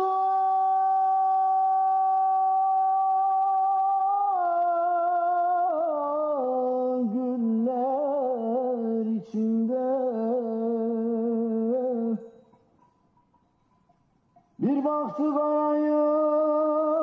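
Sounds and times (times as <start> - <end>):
man singing unaccompanied: 0.0 - 12.3, 14.6 - 17.0.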